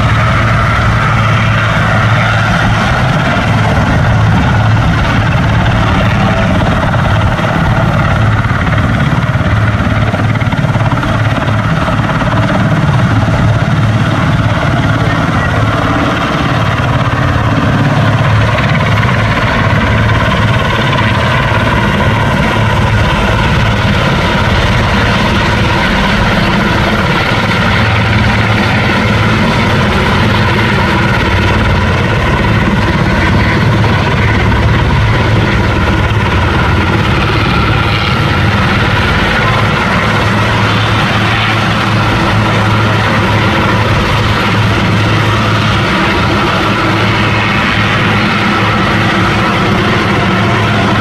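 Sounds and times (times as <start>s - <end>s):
heavy engine running: 0.0s - 51.0s.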